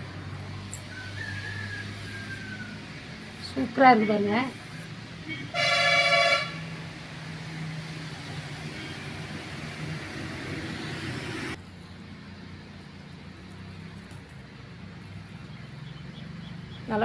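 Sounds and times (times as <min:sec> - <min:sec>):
low traffic hum: 0:00.0 - 0:17.0
vehicle passing close by: 0:00.0 - 0:17.0.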